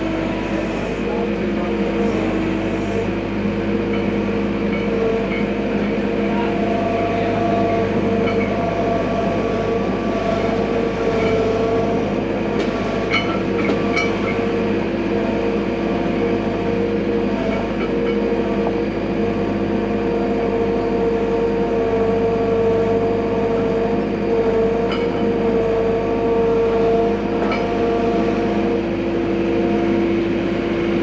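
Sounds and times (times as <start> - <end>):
combine harvester droning: 0.0 - 31.0.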